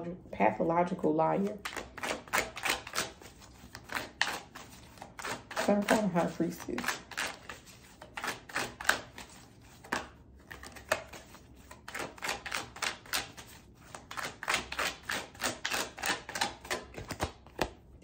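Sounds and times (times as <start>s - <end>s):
cards shuffling clicks and slaps: 1.6s - 6.0s, 6.8s - 17.9s.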